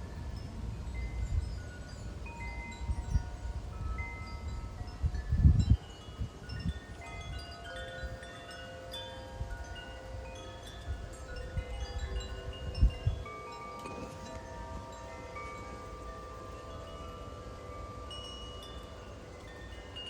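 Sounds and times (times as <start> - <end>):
wind buffeting microphone: 0.0 - 20.0
wind chimes ringing: 0.0 - 20.0.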